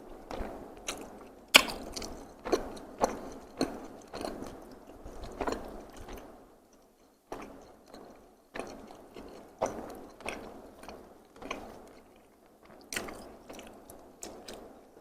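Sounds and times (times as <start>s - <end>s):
close chewing with wet mouth clicks: 0.3s - 14.9s.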